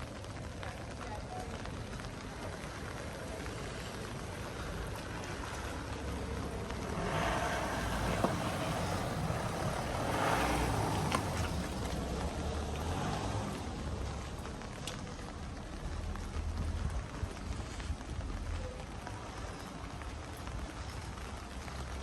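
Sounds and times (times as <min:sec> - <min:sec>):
rain hiss: 0:00.0 - 0:22.0
vehicles passing on wet street: 0:00.0 - 0:22.0.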